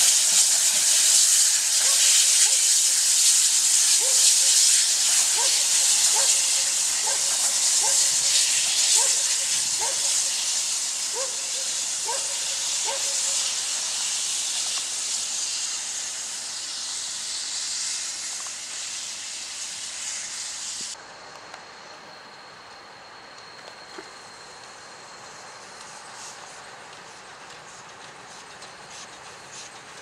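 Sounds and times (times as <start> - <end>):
steam hissing: 0.0 - 30.0.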